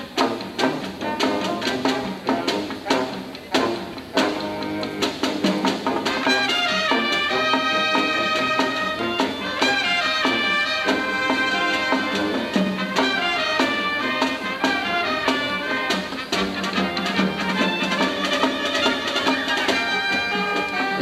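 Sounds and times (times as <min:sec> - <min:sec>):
brass instruments playing: 0:00.0 - 0:21.0
drum hits: 0:00.0 - 0:21.0.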